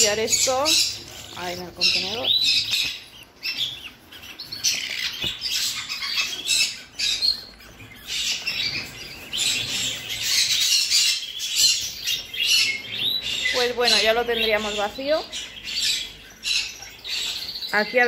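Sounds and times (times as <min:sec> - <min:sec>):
budgerigar nestlings squawking: 0:00.0 - 0:18.0.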